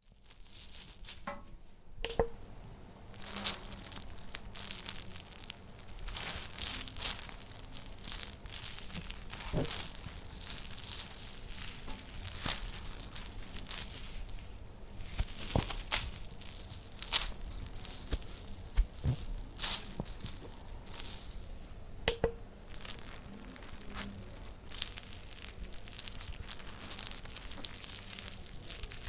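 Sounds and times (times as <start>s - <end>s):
crunching and tearing dragging: 3.1s - 21.8s, 22.7s - 29.0s.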